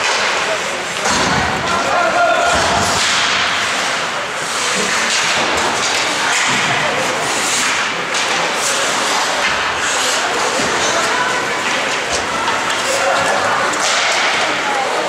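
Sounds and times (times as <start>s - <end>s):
hockey sticks and puck clacking: 0.0s - 15.0s
skate blades scraping ice: 2.8s - 15.0s.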